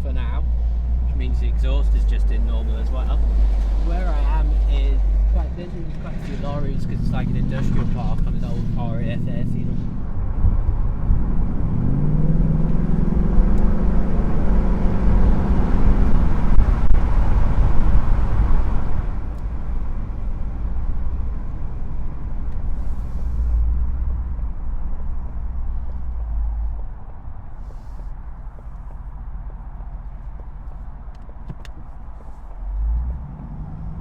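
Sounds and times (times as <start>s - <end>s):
car engine accelerating: 0.0s - 34.0s
low engine and road rumble: 0.0s - 34.0s.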